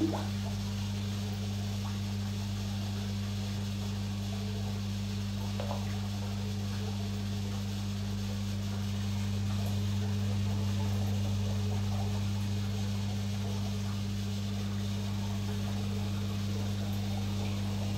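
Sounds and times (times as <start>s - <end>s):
aquarium equipment humming: 0.0s - 17.9s.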